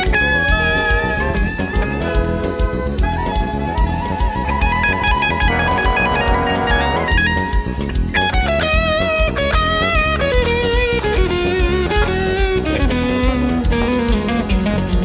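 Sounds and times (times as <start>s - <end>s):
big band rhythm section: 0.0s - 15.0s
electric guitar lead with vibrato: 0.0s - 15.0s.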